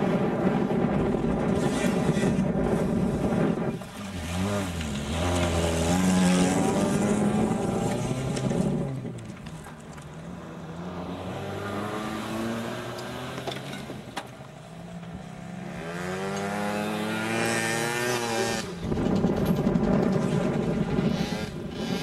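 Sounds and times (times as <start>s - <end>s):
racing car engines: 0.0s - 22.0s
car engine revving: 0.1s - 22.0s.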